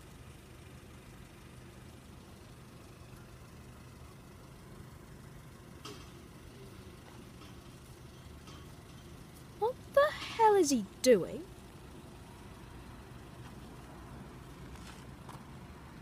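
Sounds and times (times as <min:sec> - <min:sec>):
engine idling low hum: 0:00.0 - 0:16.0.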